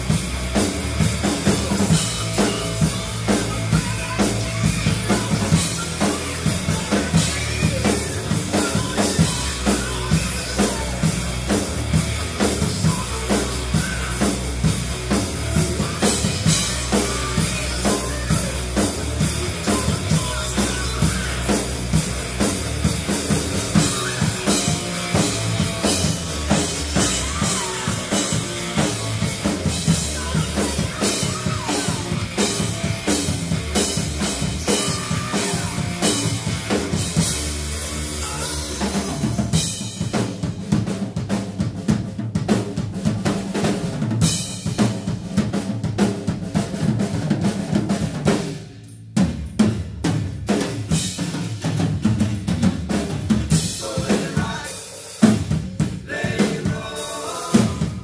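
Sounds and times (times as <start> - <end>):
drum kit playing rock groove: 0.0 - 58.0.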